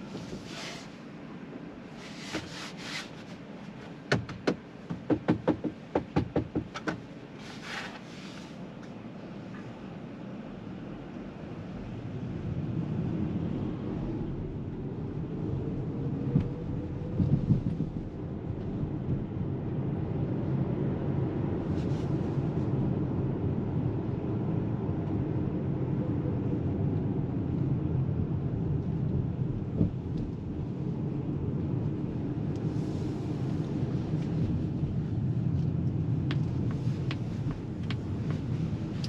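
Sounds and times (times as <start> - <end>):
road and tyre rumble: 0.0 - 39.0.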